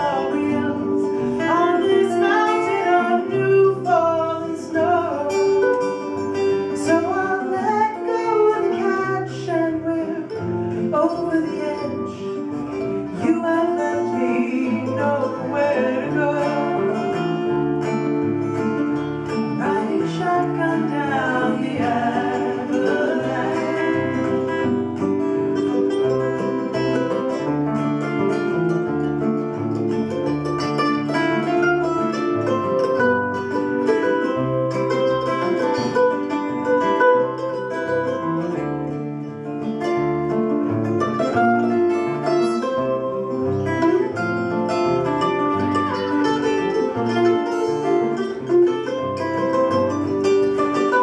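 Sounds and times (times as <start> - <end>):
acoustic guitar folk melody: 0.0 - 51.0.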